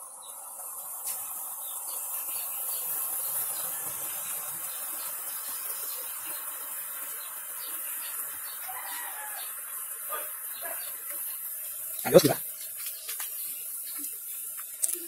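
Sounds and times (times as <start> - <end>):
smoke grenade hissing: 0.4 - 15.0.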